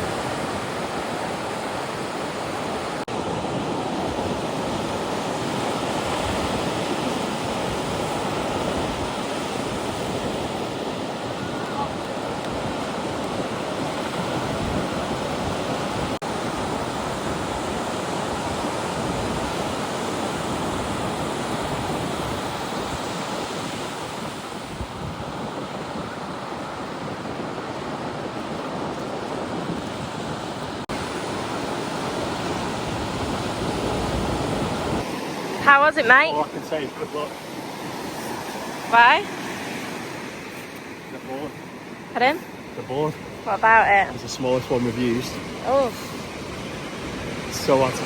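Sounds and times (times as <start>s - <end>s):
wind buffeting microphone: 0.0s - 40.6s
waves breaking: 0.0s - 48.0s.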